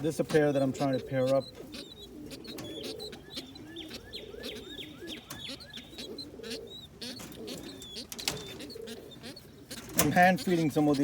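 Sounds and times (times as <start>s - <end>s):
pigeons cooing: 0.0s - 11.0s
high falling peeps: 0.4s - 11.0s.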